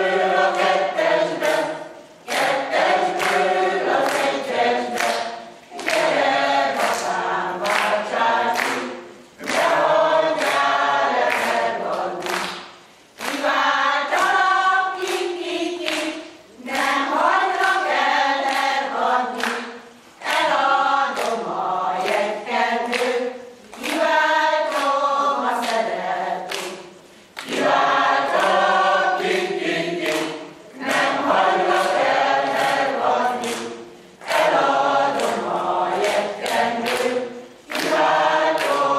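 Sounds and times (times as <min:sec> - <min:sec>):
mixed choir singing a cappella: 0:00.0 - 0:38.9.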